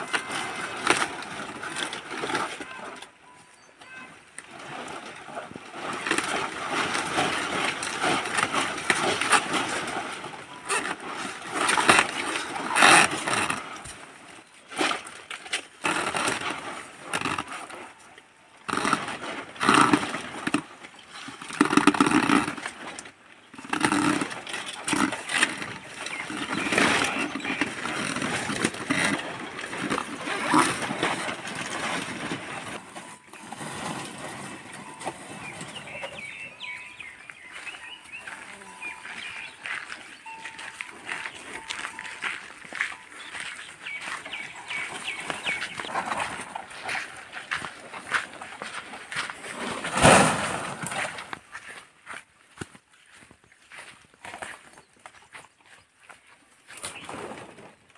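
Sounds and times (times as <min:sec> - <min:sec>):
dry palm fronds rustling: 0:00.0 - 0:57.9.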